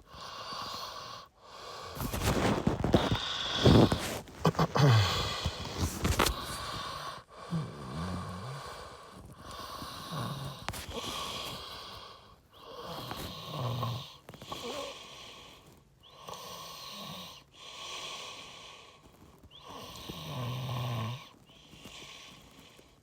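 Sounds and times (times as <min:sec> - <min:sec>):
person breathing with snoring rasp: 0:00.0 - 0:23.0.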